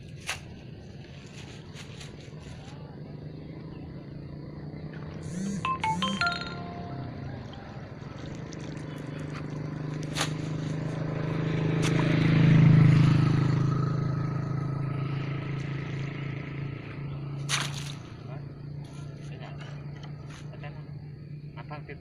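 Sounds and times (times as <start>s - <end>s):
motor engine droning: 2.4s - 21.6s.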